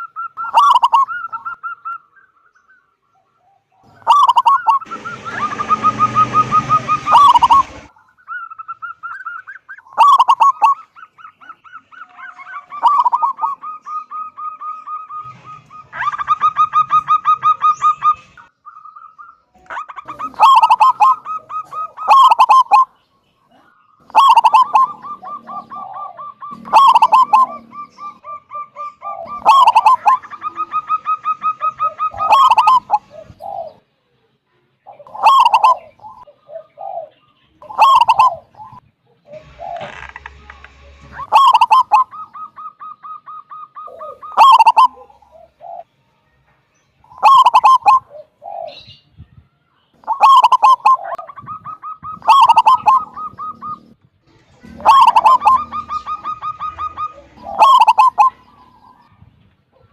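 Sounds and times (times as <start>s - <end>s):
dove cooing and trilling: 0.0s - 34.0s, 34.8s - 40.2s, 41.0s - 45.9s, 47.0s - 49.4s, 50.0s - 59.9s.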